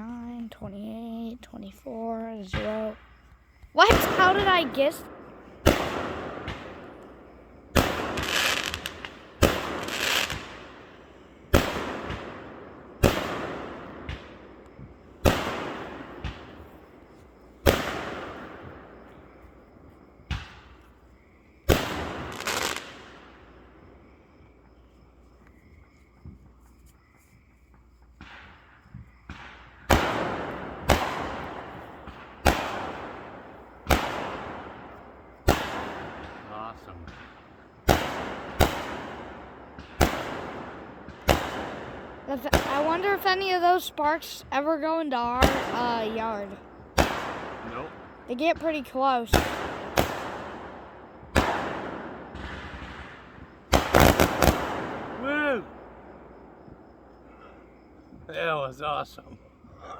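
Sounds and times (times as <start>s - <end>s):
fireworks bangs: 1.9s - 24.7s, 28.1s - 58.6s.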